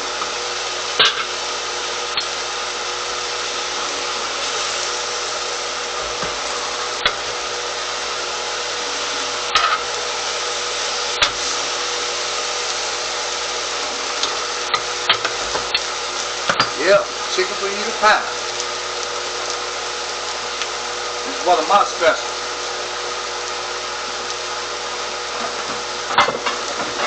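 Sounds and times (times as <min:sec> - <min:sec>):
food sizzling on a grill: 0:00.0 - 0:27.0.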